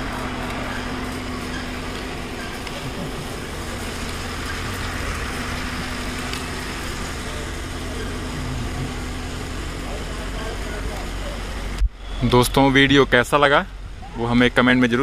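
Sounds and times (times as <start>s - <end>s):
engine idling: 0.0s - 15.0s
outdoor background noise: 0.0s - 15.0s.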